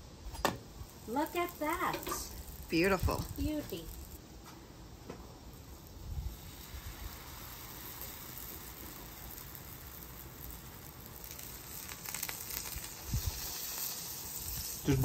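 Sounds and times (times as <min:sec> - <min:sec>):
dough sizzling on a griddle: 0:00.0 - 0:15.0.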